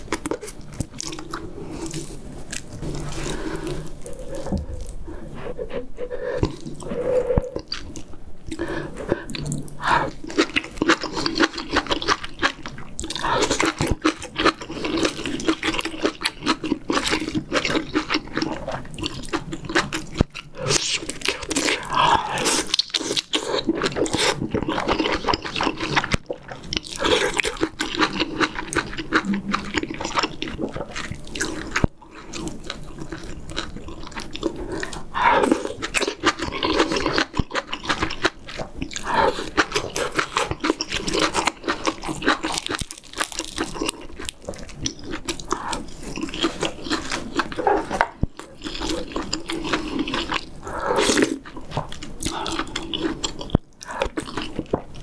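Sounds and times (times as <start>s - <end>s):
person chewing with wet mouth sounds: 0.0s - 55.0s.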